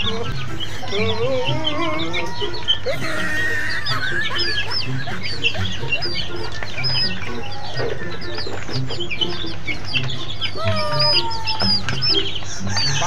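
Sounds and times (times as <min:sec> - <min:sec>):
young chickens peeping: 0:00.0 - 0:13.0.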